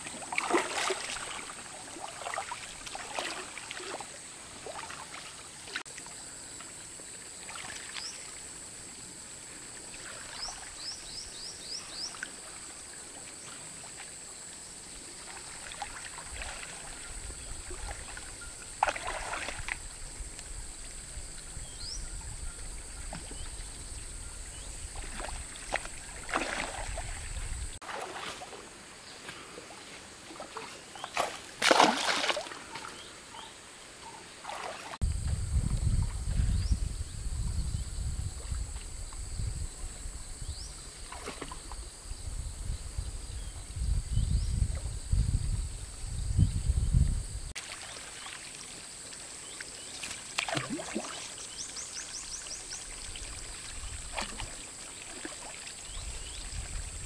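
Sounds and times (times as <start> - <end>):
water splashing and sloshing: 0.0 - 8.7, 9.4 - 36.5, 40.9 - 41.9, 47.5 - 57.0.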